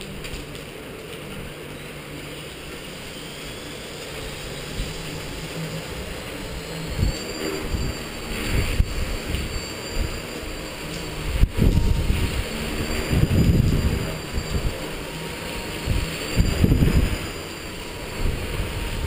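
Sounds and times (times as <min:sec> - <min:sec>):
rc helicopter motor whine: 0:00.0 - 0:19.0
wind rumbling on microphone: 0:00.0 - 0:19.0.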